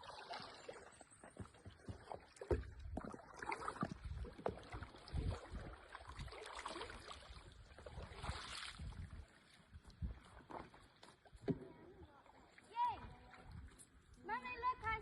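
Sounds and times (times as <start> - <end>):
paddle splashing in water: 0.0 - 14.0.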